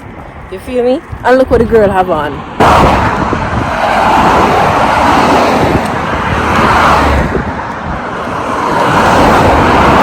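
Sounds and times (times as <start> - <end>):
cars passing on road: 0.0 - 10.0.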